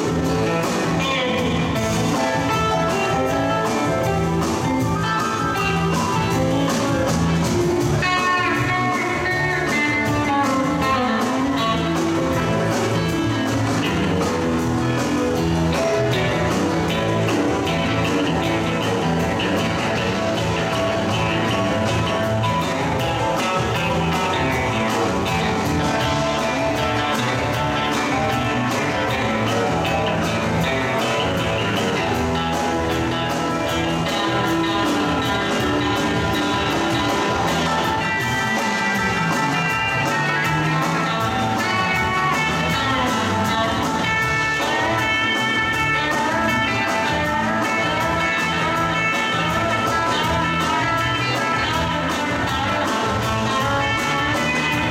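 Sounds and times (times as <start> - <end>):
bass guitar: 0.0 - 54.9
drums: 0.0 - 54.9
electric guitars playing lead: 0.0 - 54.9.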